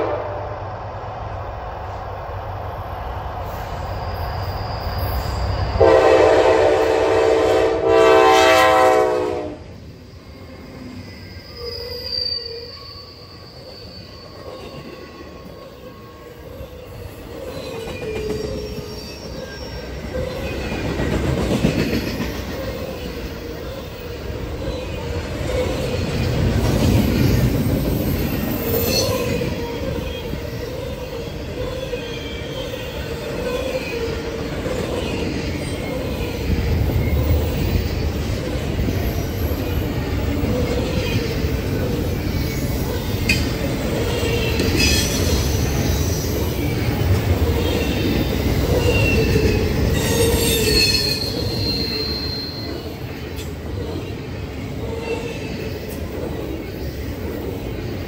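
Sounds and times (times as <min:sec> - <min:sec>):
freight train rumble: 0:00.0 - 0:58.0
steel wheels squealing on rail: 0:03.2 - 0:58.0.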